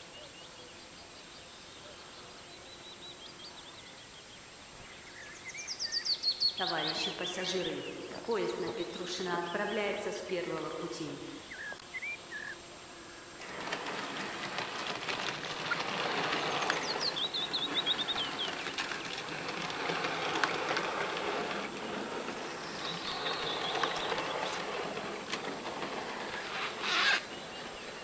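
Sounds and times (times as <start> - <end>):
bird chirping: 0.0 - 13.4, 15.5 - 19.5, 21.1 - 28.0
model train whirring on track: 0.0 - 28.0.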